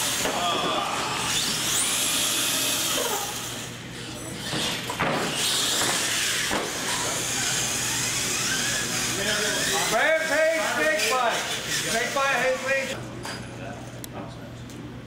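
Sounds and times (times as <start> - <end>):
rc truck motor whining: 0.0 - 13.0.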